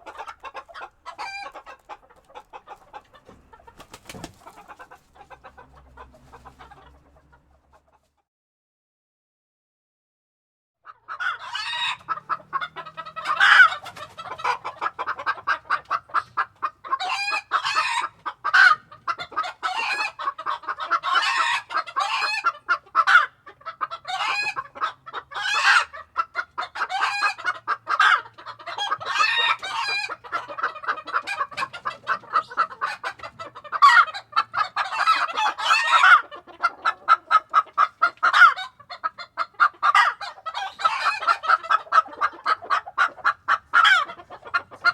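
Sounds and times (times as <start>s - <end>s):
chicken squawks: 0.0s - 8.1s, 10.8s - 44.9s
chickens clucking: 0.0s - 8.3s, 10.8s - 44.9s.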